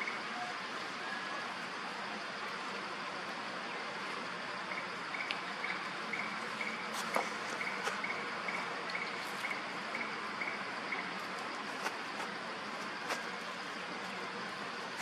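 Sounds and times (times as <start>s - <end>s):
insects chirping: 0.0s - 15.0s
steady hiss: 0.0s - 15.0s.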